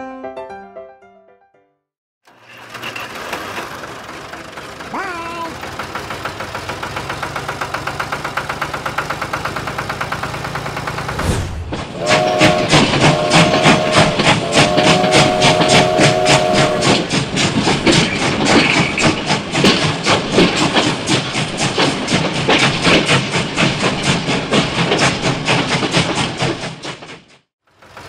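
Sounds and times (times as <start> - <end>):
toy steam locomotive chuffing: 2.3 - 11.2, 11.9 - 27.1, 27.7 - 28.0.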